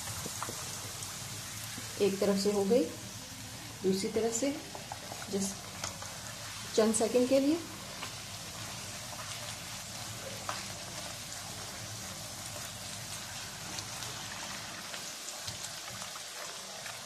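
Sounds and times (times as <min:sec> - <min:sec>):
faint crackles: 0:00.0 - 0:02.0, 0:04.6 - 0:17.0
oil sizzling: 0:00.0 - 0:17.0.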